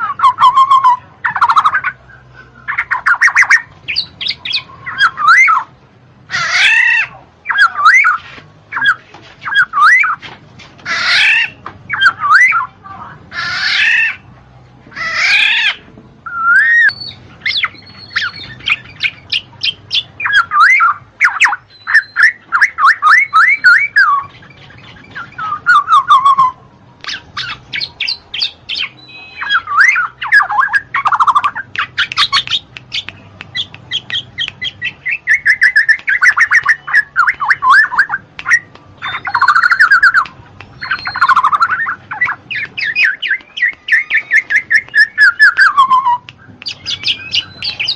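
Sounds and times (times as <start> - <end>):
bird calling: 0.0 - 5.7, 14.9 - 47.9.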